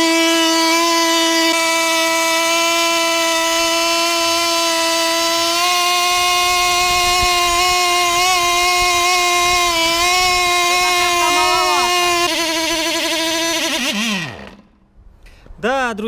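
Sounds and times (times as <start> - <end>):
model aircraft engine high whine: 0.0 - 14.8.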